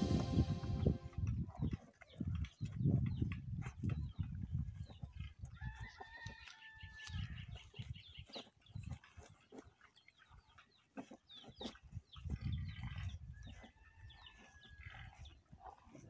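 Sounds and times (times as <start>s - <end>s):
cow munching feed: 0.0s - 6.6s, 7.9s - 16.0s.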